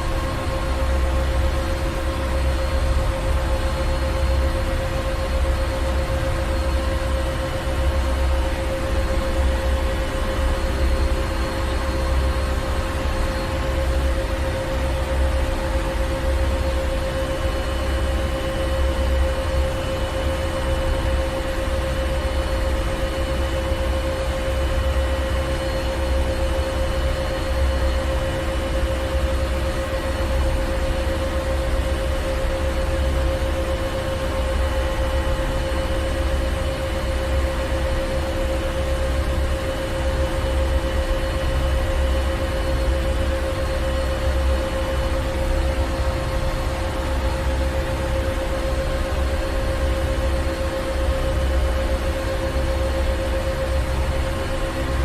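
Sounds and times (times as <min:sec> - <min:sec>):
constant machinery hum: 0:00.0 - 0:55.0
deep pulsing machinery rumble: 0:00.0 - 0:55.0.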